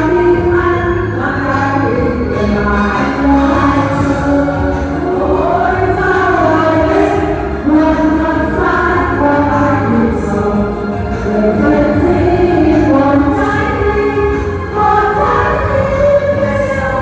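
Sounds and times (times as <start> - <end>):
instrumental accompaniment with bass: 0.0 - 17.0
choir singing: 2.1 - 17.0.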